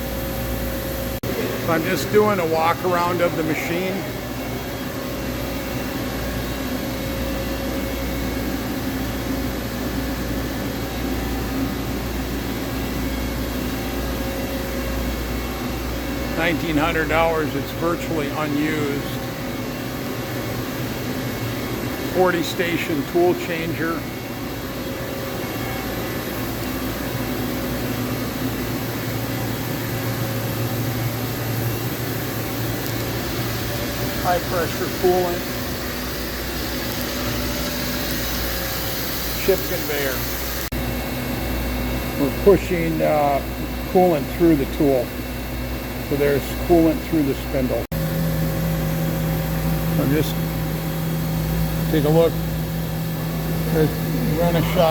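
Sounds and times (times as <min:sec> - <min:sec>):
machining center humming: 0:00.0 - 0:54.9.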